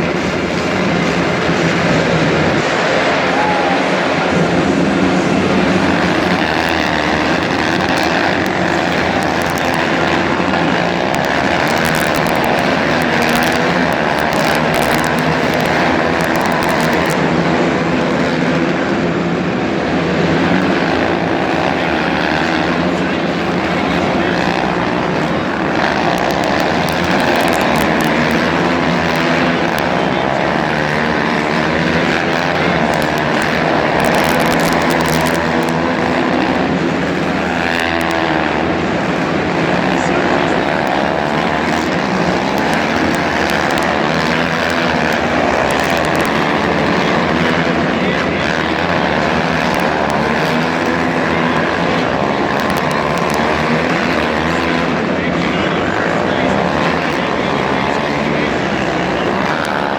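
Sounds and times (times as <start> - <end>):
monster truck engines revving: 0.0 - 59.9.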